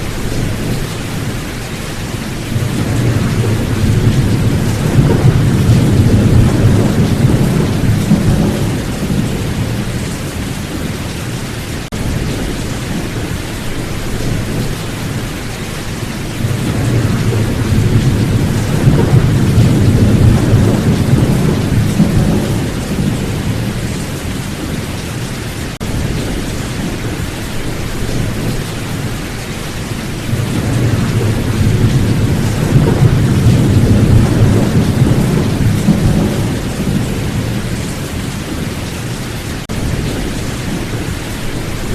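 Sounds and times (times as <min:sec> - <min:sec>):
deep rolling thunder: 0:00.0 - 0:25.0, 0:25.8 - 0:41.9
heavy rain: 0:00.0 - 0:41.9.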